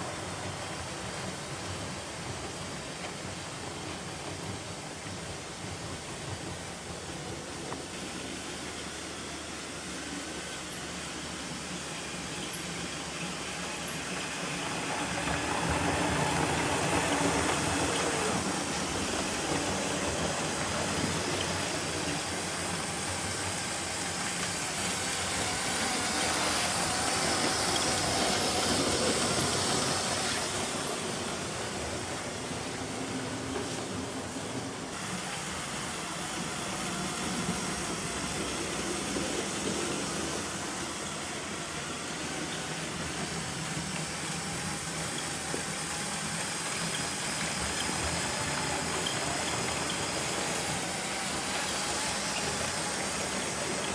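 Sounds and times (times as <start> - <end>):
toy train motor whirring and rattling: 3.0 - 34.0, 34.9 - 53.9.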